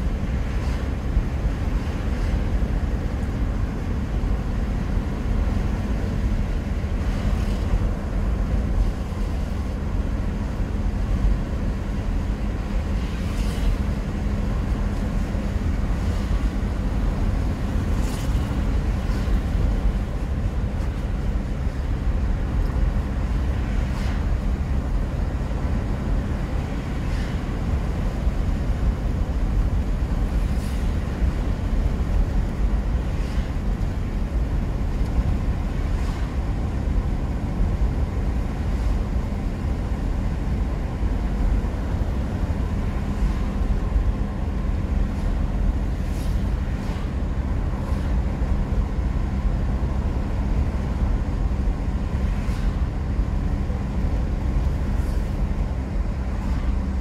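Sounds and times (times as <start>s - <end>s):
car cabin road rumble: 0.0s - 57.0s.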